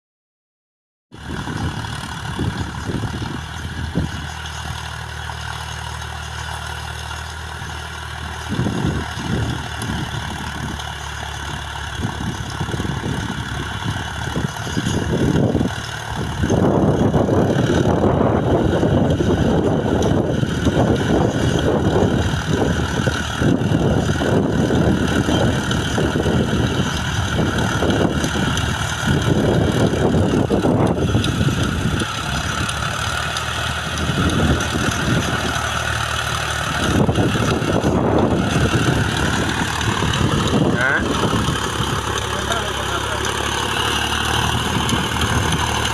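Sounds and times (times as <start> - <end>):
tractor engine idling: 1.1 - 45.9.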